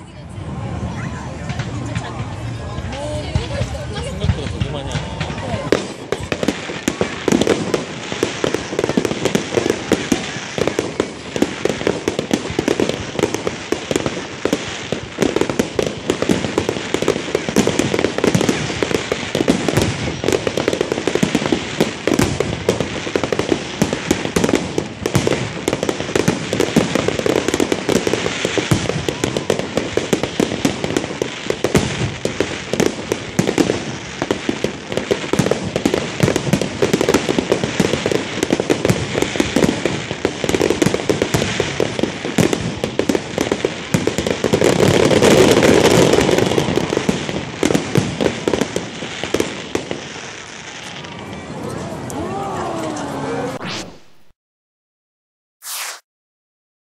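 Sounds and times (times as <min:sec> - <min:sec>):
fireworks bangs and crackling: 0:00.0 - 0:54.3, 0:55.6 - 0:56.0.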